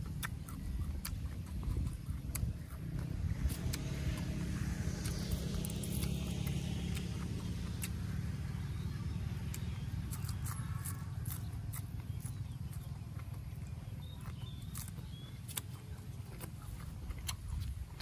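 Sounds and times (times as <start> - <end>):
vegetable stems snapping and chewing: 0.0 - 8.2, 9.4 - 18.0
vehicle engine humming: 0.0 - 18.0.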